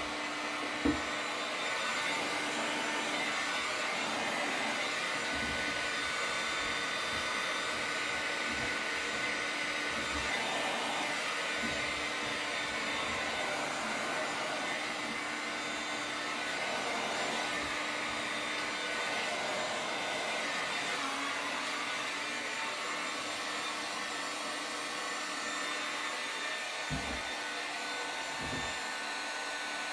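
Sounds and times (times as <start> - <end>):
shop vacuum running: 0.0 - 29.9.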